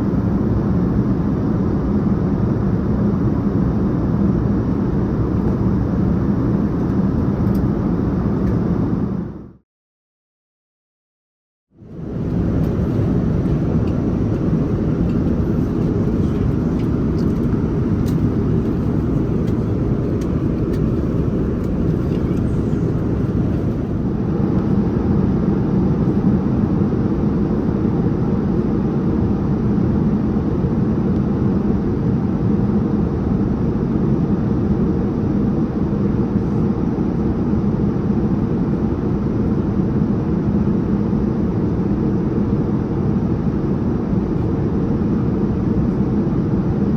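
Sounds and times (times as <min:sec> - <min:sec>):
airplane cabin engine rush: 0:00.0 - 0:09.6, 0:11.7 - 0:46.9.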